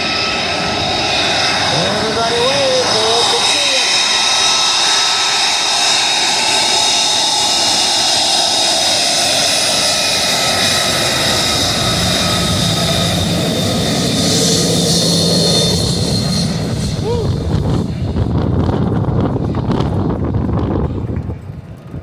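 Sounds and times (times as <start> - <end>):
jet engine whine and roar: 0.0 - 22.0.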